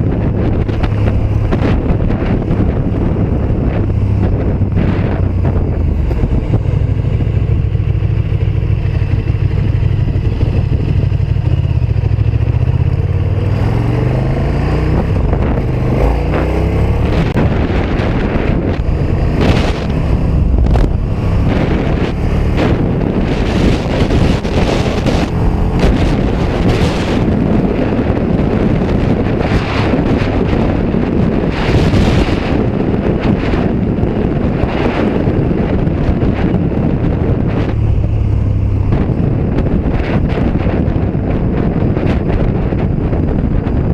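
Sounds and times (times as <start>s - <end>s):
motorcycle engine accelerating: 0.0s - 43.9s
wind rushing over microphone: 0.0s - 43.9s.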